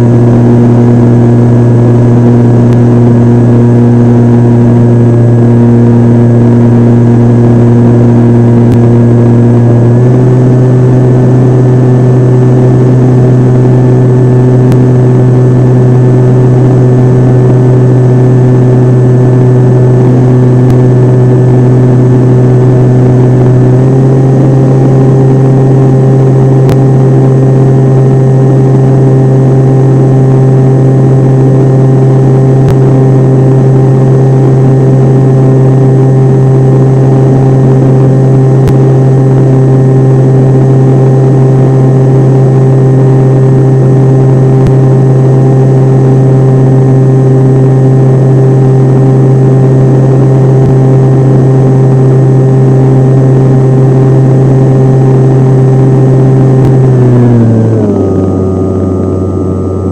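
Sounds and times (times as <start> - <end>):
model airplane motor droning: 0.0 - 59.9
steady rushing noise: 0.0 - 59.9.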